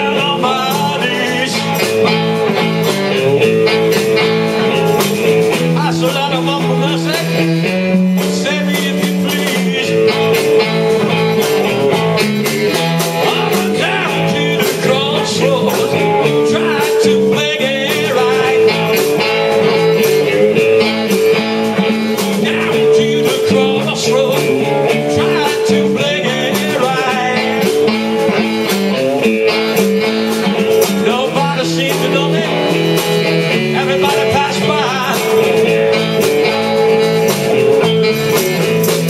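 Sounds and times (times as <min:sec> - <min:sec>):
blues-rock band playing: 0:00.0 - 0:39.0.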